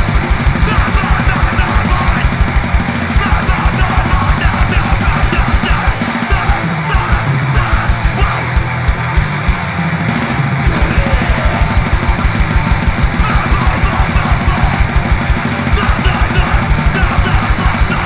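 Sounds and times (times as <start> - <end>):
fast kick drum strokes: 0.0 - 9.8, 10.7 - 18.0
punk band playing live: 0.0 - 18.0.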